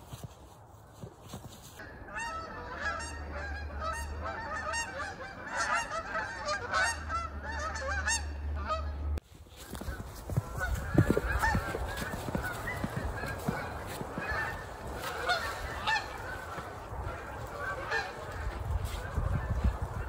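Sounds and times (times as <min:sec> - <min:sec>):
geese honking: 0:01.8 - 0:20.0.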